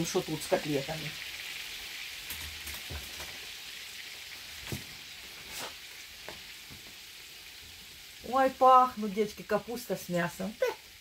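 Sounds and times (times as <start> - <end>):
cutlets sizzling in a frying pan: 0.0 - 11.0.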